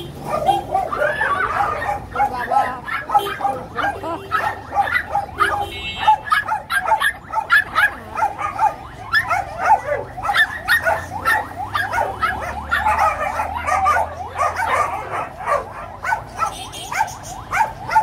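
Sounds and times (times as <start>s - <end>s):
dogs barking and yipping: 0.0s - 18.0s.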